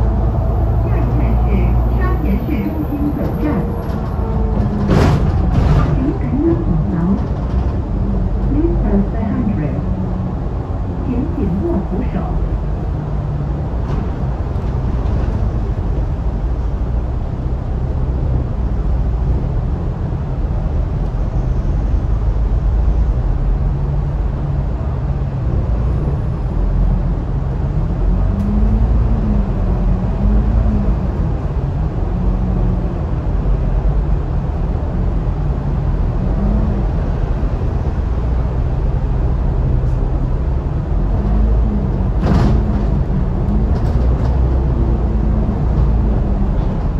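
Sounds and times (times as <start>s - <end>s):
bus diesel engine drone: 0.0s - 46.9s.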